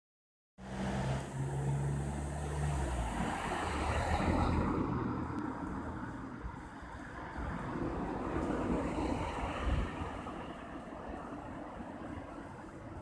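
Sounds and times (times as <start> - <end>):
constant rushing noise: 2.2 - 13.0.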